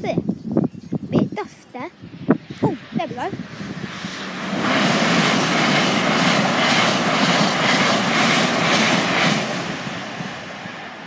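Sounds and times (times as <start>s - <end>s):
train passing at speed: 1.0s - 11.0s.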